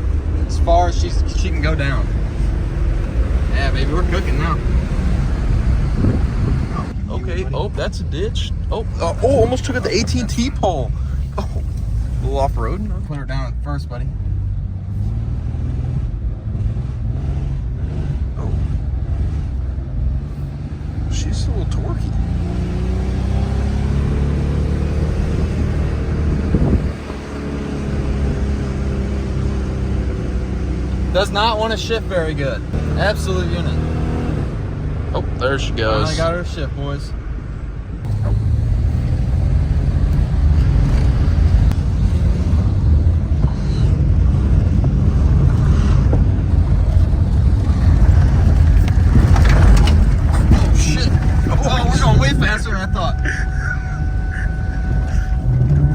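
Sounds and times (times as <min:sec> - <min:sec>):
car engine at high revs: 0:00.0 - 0:55.9.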